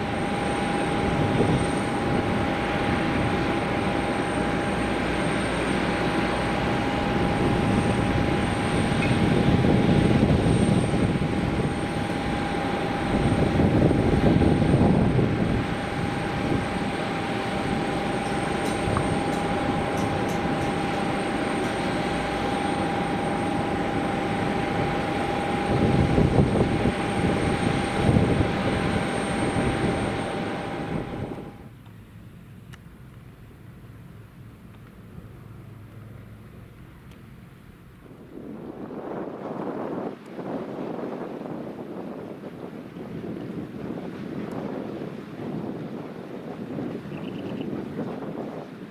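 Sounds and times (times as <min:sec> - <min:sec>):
jet engine whine: 0:00.0 - 0:48.9.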